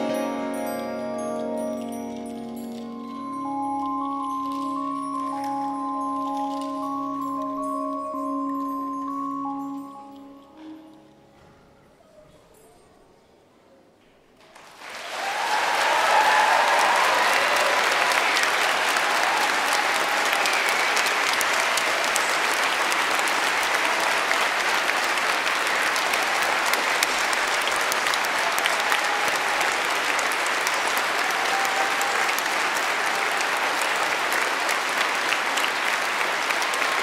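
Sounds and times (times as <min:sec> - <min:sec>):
audience applauding: 0:00.0 - 0:10.9, 0:14.4 - 0:37.0.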